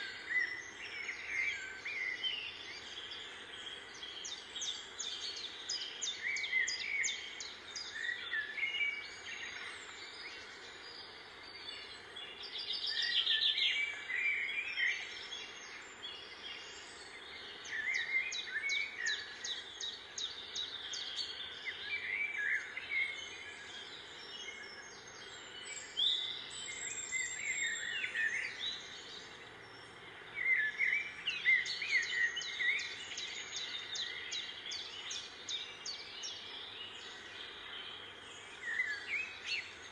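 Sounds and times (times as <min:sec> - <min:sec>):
outdoor background noise: 0:00.0 - 0:39.9
small birds chirping: 0:00.0 - 0:39.9.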